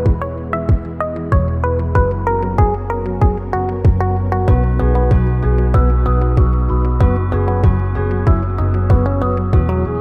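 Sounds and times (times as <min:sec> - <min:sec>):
background music with chords: 0:00.0 - 0:10.0
steady low beat: 0:00.1 - 0:09.8.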